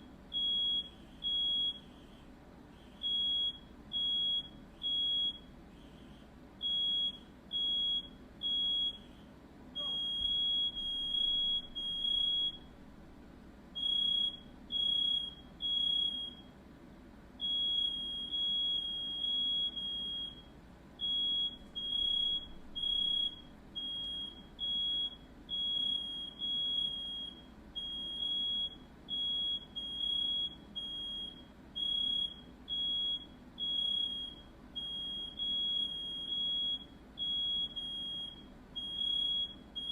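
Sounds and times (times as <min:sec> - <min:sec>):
smoke alarm beeping: 0:00.0 - 0:02.2, 0:02.8 - 0:06.0, 0:06.6 - 0:09.2, 0:09.8 - 0:12.9, 0:13.8 - 0:16.5, 0:17.4 - 0:39.9
faint low hum: 0:00.0 - 0:39.9.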